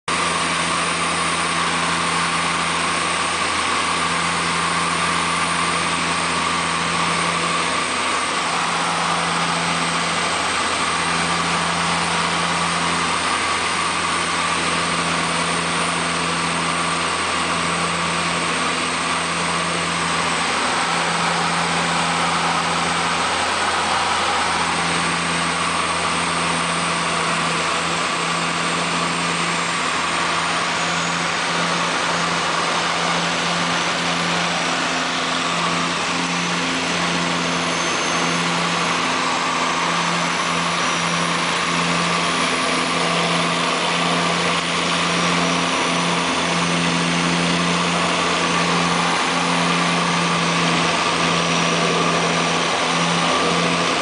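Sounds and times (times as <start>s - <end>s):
turboprop engines droning: 0.1s - 54.0s
airflow rushing: 7.0s - 14.6s, 18.3s - 54.0s.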